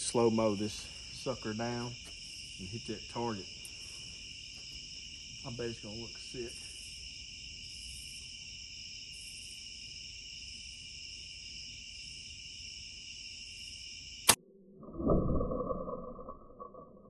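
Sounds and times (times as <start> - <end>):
crickets trilling: 0.0 - 14.4.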